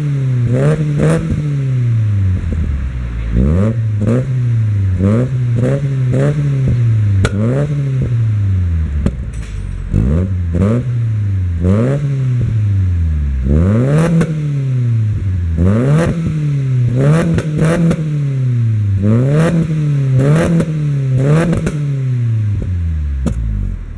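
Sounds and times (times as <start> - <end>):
car engine revving: 0.0 - 23.9
exhaust crackle: 0.0 - 23.9.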